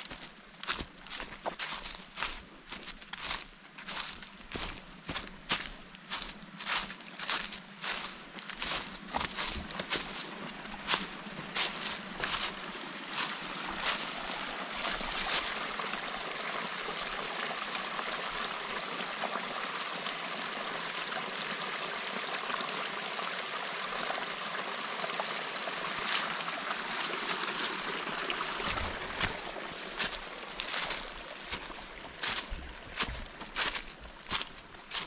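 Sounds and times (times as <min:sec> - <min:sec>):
water trickling: 0:03.8 - 0:35.0.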